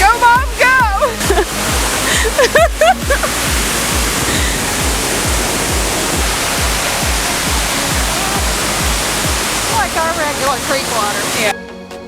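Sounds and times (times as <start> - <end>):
background music low beat: 0.0 - 11.4
waterfall rushing: 0.0 - 11.5.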